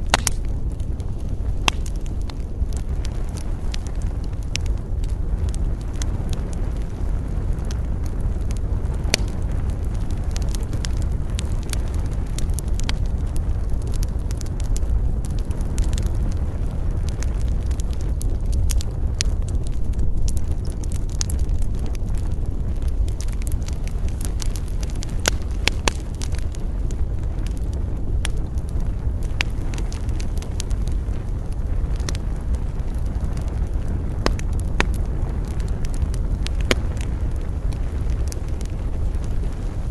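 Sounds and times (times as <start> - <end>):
campfire flames rushing: 0.0 - 39.9
fire crackles and pops: 0.0 - 39.9.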